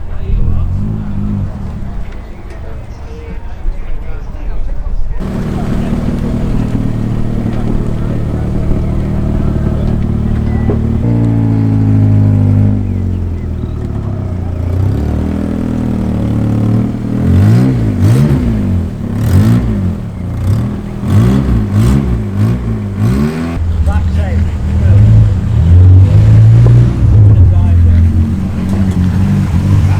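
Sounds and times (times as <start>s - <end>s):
car engine idling and revving: 0.0s - 2.7s, 5.2s - 29.9s.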